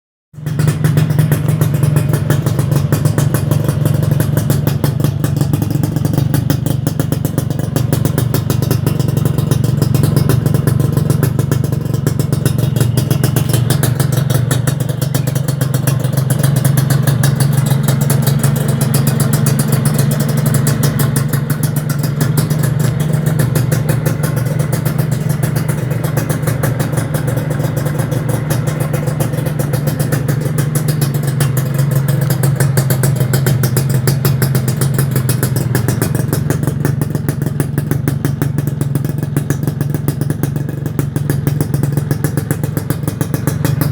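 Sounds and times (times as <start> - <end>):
two-stroke motorcycle idling: 0.4 - 43.9.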